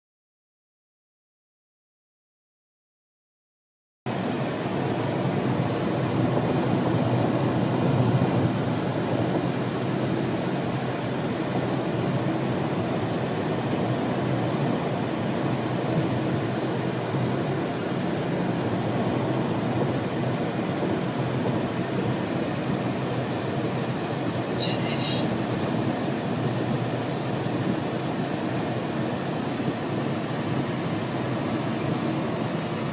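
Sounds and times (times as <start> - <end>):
strong sandstorm wind: 4.2 - 32.9.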